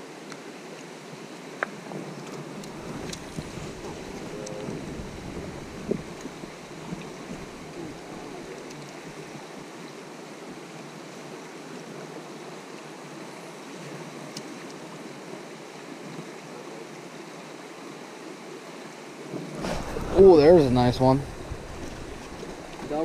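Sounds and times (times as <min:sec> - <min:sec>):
creek water running over stones: 0:00.0 - 0:23.0.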